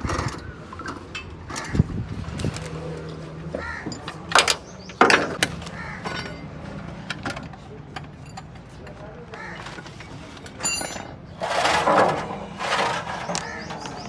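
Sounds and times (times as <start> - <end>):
tools clanking and knocking: 0.1 - 3.1, 3.9 - 9.0, 9.6 - 14.0.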